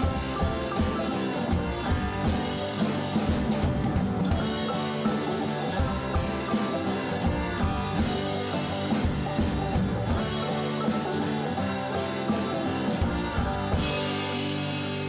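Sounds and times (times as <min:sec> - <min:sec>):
rock music with guitar and drums: 0:00.0 - 0:15.0.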